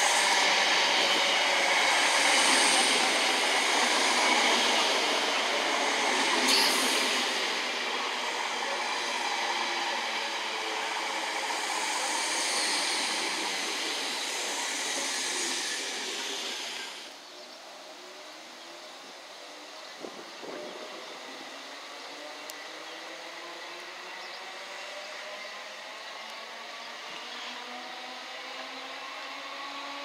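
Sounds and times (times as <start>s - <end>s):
train wheels rushing on rail: 0.0s - 30.0s.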